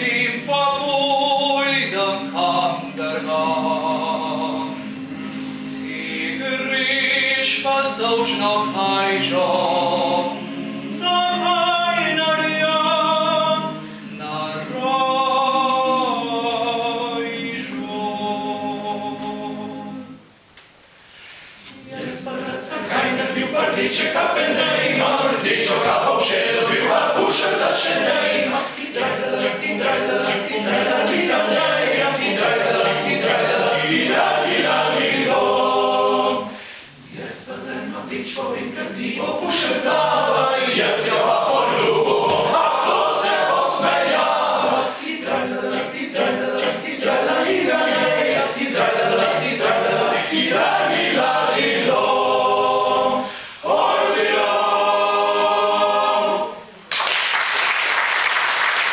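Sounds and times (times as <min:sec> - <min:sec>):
male choir singing a cappella: 0:00.0 - 0:20.2, 0:21.7 - 0:56.7.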